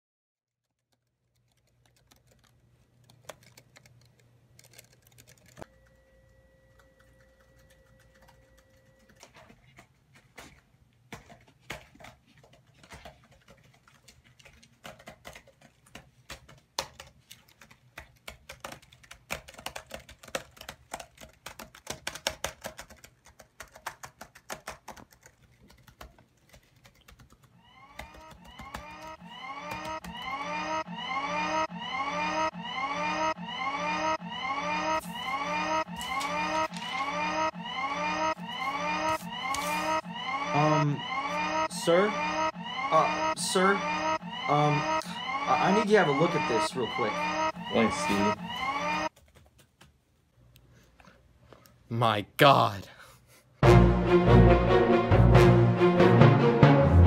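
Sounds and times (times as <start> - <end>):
computer keyboard typing: 0.7 - 6.1, 6.7 - 50.0.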